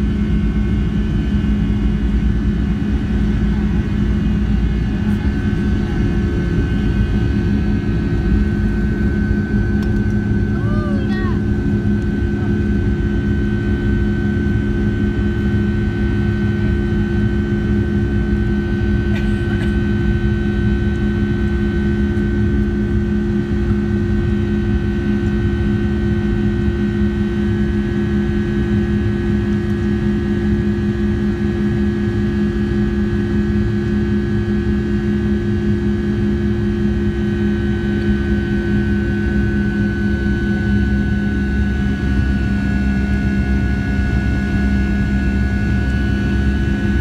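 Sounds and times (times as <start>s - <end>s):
jet engines droning: 0.0s - 47.0s.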